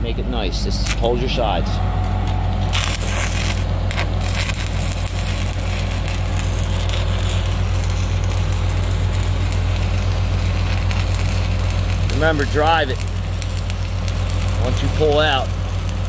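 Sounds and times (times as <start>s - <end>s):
low engine hum: 0.0s - 16.0s
welding arc crackling: 0.6s - 16.0s.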